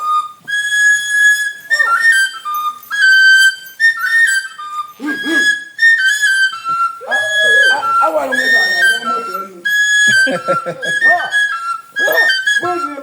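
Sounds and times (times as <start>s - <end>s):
wooden flute playing high notes: 0.0s - 13.0s.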